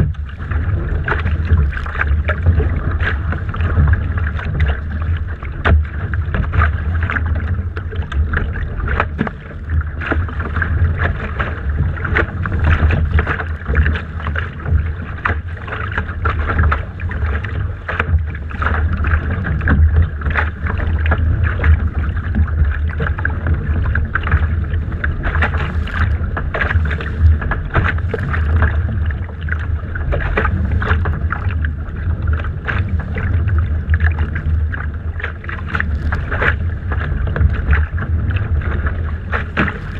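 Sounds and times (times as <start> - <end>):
water slapping against hull: 0.0 - 39.9
wind buffeting microphone: 0.0 - 39.9.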